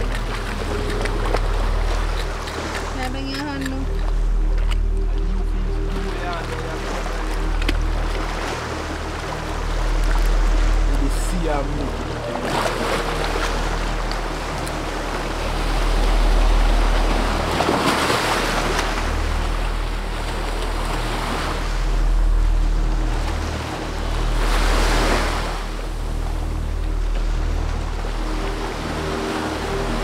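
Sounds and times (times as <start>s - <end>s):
small waves breaking: 0.0s - 30.0s.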